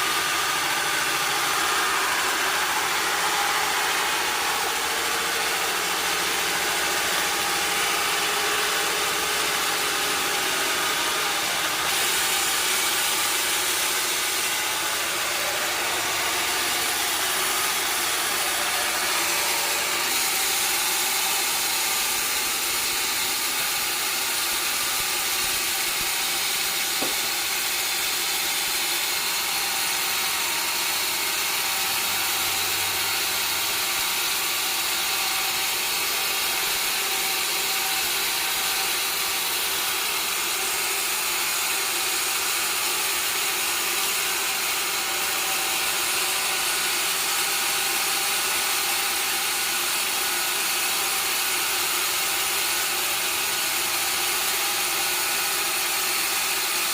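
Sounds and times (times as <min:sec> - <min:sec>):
sawmill saw cutting wood: 0:00.0 - 0:56.9.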